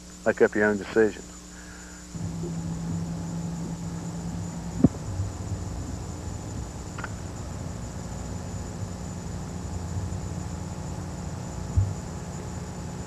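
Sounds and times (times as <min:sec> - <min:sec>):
even hiss: 0:00.0 - 0:13.0
steady low hum: 0:00.0 - 0:13.0.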